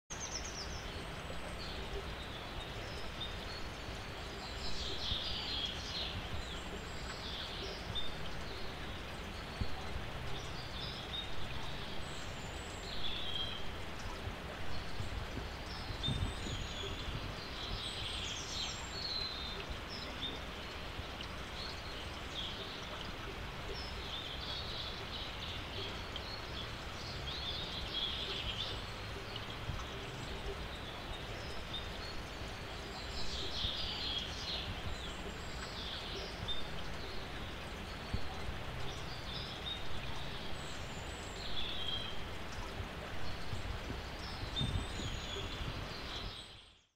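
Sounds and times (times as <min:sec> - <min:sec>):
low outdoor background noise: 0:00.1 - 0:46.9
small birds chirping and singing: 0:00.1 - 0:46.9.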